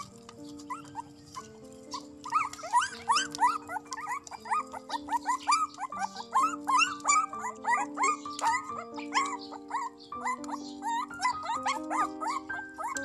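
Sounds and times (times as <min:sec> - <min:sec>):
background music with held notes: 0:00.0 - 0:13.0
puppies whimpering and squealing: 0:00.0 - 0:13.0.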